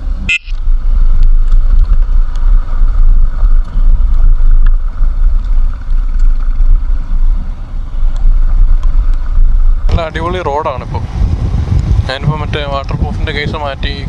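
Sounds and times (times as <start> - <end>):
motorcycle engine: 0.0 - 12.1
road noise: 0.0 - 14.0
wind buffeting microphone: 0.0 - 14.0.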